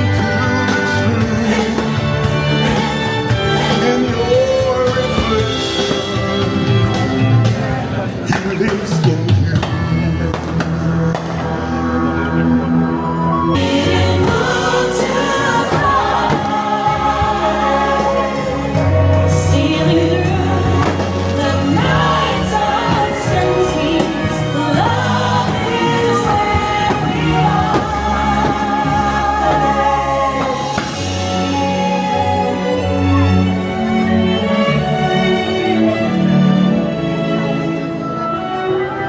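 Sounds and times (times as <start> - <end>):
choir singing: 0.0 - 6.4, 13.0 - 38.0.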